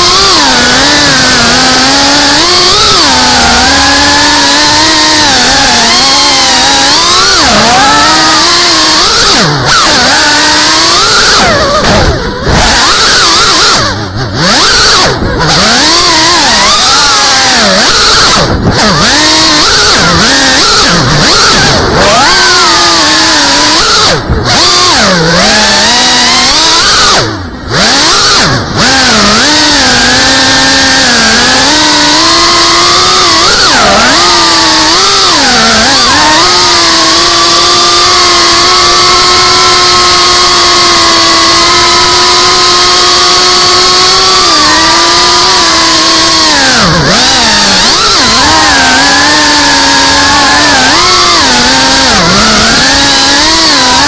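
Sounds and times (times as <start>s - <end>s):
drone motors whining: 0.0s - 54.0s.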